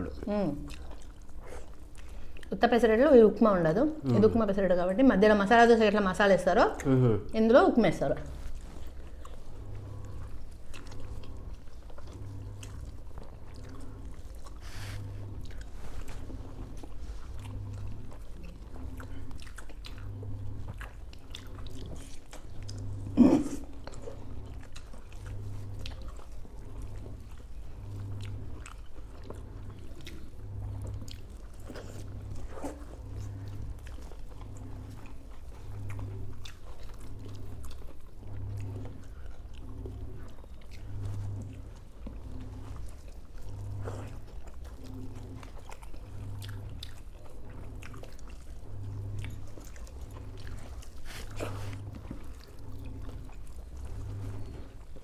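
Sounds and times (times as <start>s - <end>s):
chewing and mouth sounds: 0.0s - 7.0s, 8.0s - 55.0s.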